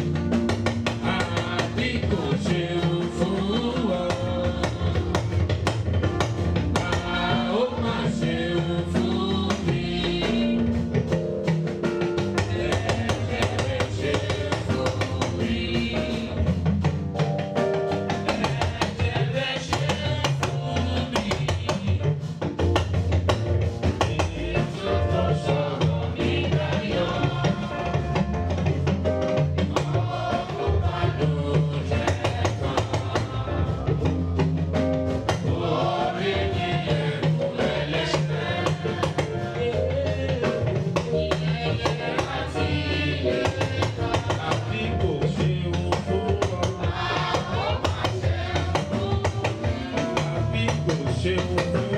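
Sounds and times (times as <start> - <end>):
congregation singing a hymn: 0.0 - 5.8, 6.7 - 10.9, 12.3 - 16.6, 18.2 - 22.1, 24.0 - 28.4, 29.6 - 34.5, 35.1 - 51.9
drums and percussion: 0.0 - 51.9.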